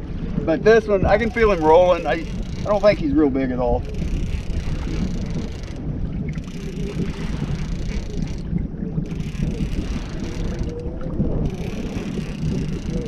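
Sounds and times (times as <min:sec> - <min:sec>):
boat rumble and crackle: 0:00.0 - 0:13.0
water: 0:00.0 - 0:13.0
wind rumbling on microphone: 0:00.0 - 0:13.0.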